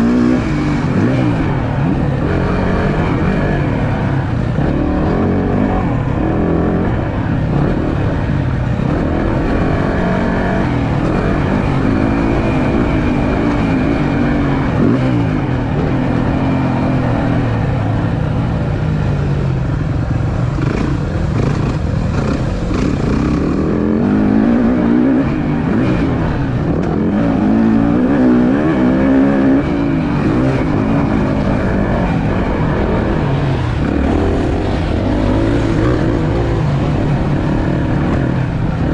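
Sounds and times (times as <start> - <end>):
motocross bike engine revving: 0.0 - 18.4, 19.6 - 38.9.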